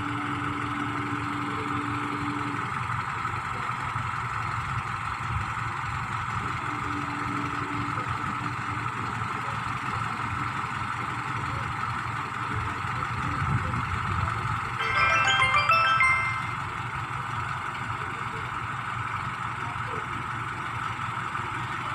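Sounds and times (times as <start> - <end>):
vehicle engine idling: 0.0 - 14.8, 16.6 - 21.9.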